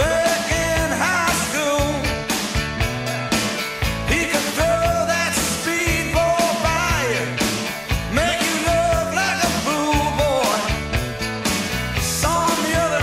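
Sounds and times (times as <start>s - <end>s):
rock song with singing: 0.0s - 13.0s.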